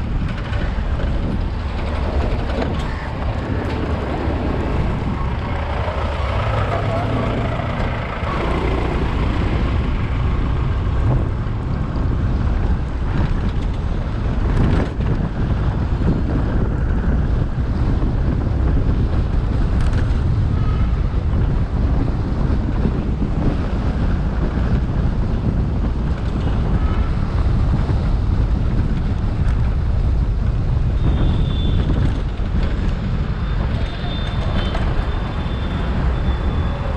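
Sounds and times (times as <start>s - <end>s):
road and traffic noise: 0.0s - 36.9s
wind rumble on microphone: 0.0s - 36.9s.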